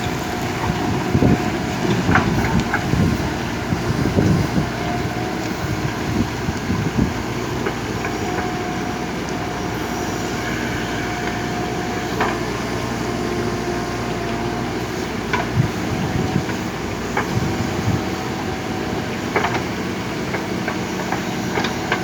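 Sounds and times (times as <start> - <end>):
backhoe diesel engine running: 0.0 - 22.0.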